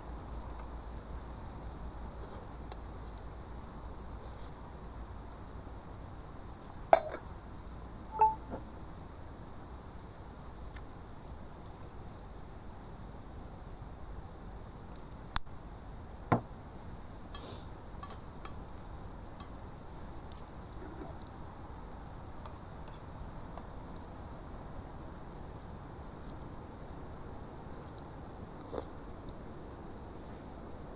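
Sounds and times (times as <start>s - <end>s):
food sizzling on a griddle: 0.0s - 30.9s.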